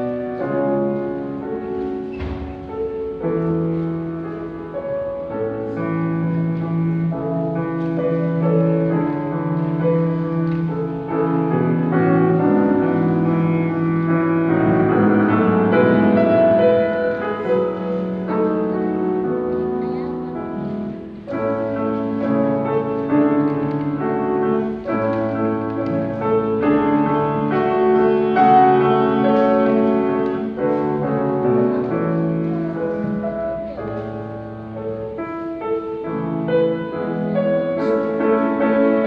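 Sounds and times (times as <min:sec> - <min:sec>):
grand piano playing: 0:00.0 - 0:39.0.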